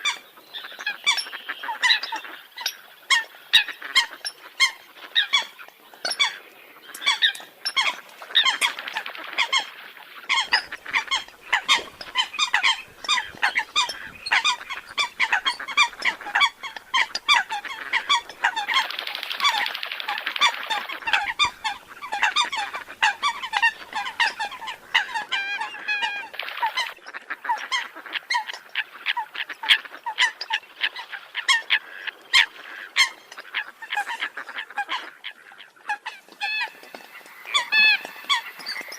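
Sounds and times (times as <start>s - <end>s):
coots honking calls: 0.0s - 38.9s.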